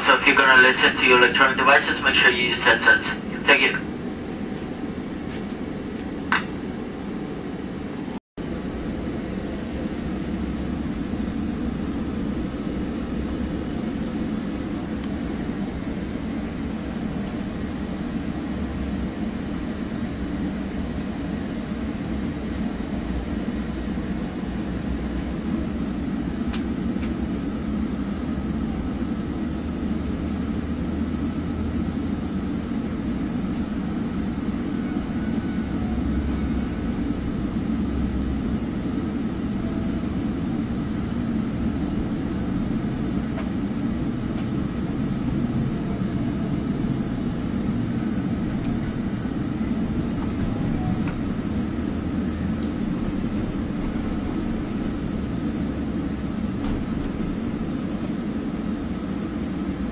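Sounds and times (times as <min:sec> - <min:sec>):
train rumble: 0:00.0 - 0:59.9.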